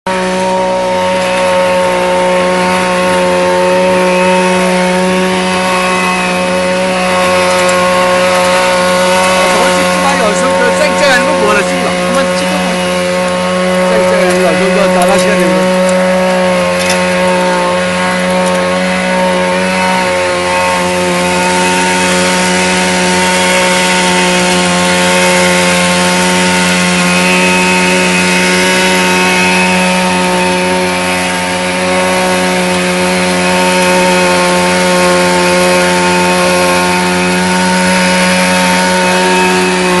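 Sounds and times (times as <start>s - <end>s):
garden cultivator engine whining: 0.0s - 40.0s.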